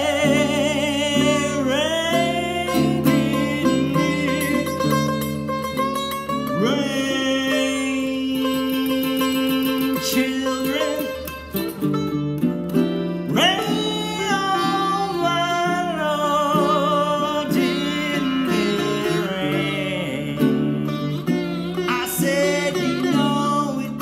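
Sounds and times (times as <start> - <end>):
man singing: 0.0 - 11.6, 13.2 - 24.0
sitar playing lead notes: 0.0 - 24.0
ukulele strumming chords: 0.0 - 24.0.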